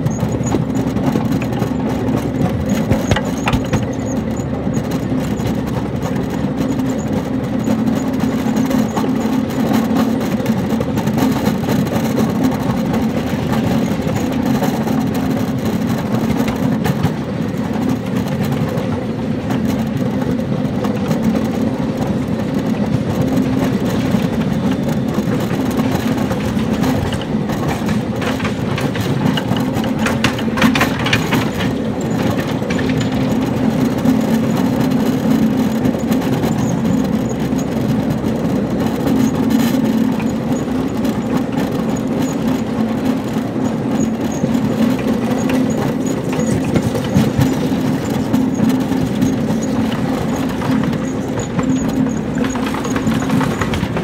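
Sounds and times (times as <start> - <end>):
steel wheels rumbling on rail: 0.0 - 54.0
train cars rattling: 0.0 - 54.0.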